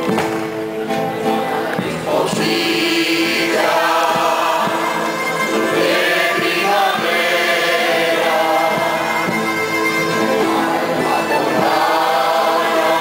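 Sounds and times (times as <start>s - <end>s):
strummed and plucked guitars: 0.0s - 13.0s
chorus of voices singing: 0.9s - 13.0s.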